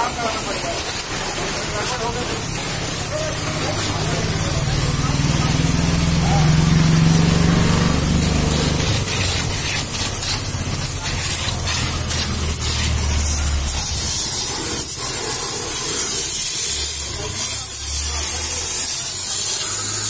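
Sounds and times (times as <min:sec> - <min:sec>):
pressure washer spray hissing: 0:00.0 - 0:20.0.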